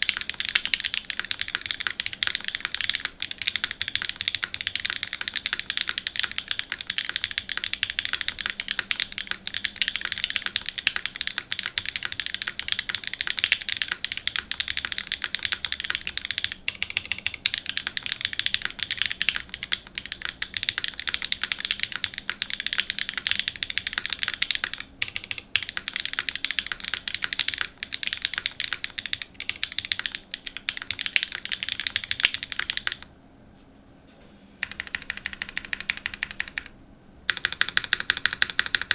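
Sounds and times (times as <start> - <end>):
fast mechanical keyboard typing: 0.0 - 33.1, 34.6 - 38.9.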